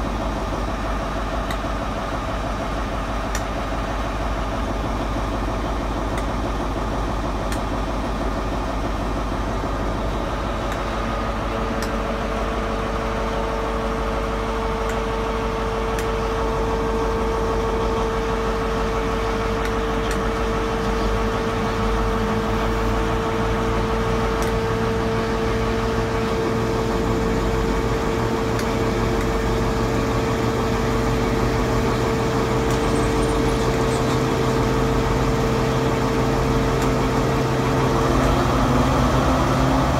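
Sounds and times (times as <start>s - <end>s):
diesel train engine hum: 0.0s - 39.9s
steady whine: 0.0s - 39.9s.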